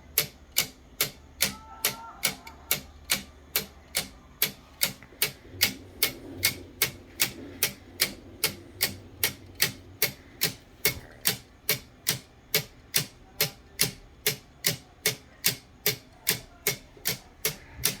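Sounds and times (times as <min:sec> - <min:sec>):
clockwork escapement ticking: 0:00.0 - 0:18.0.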